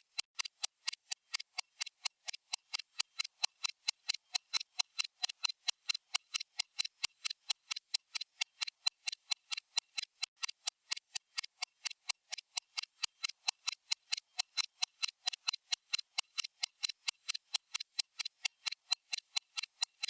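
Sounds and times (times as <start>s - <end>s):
stopwatch ticking: 0.0s - 20.0s.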